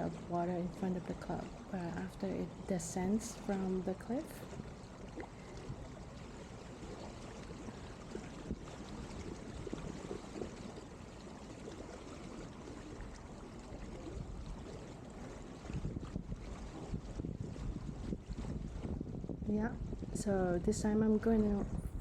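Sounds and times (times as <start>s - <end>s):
water trickling along a hull: 0.0s - 22.0s.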